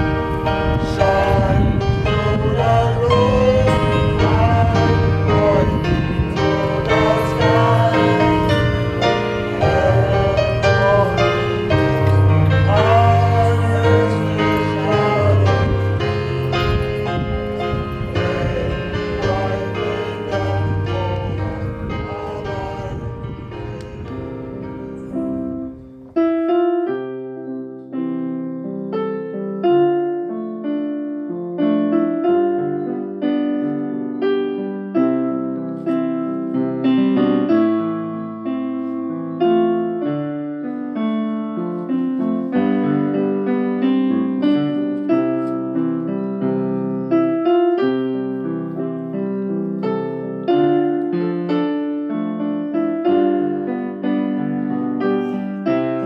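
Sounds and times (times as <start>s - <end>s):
solo piano music: 0.0s - 56.0s.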